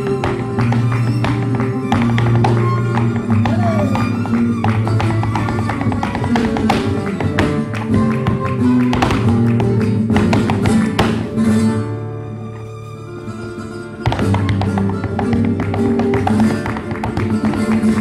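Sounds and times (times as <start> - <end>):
flamenco guitar: 0.0 - 18.0.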